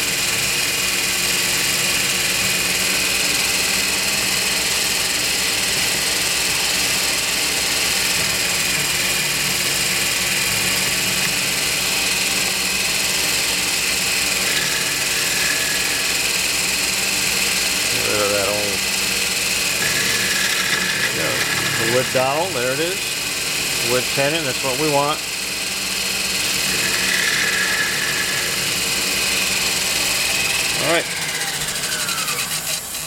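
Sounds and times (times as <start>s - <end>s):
metal lathe cutting: 0.0s - 33.0s.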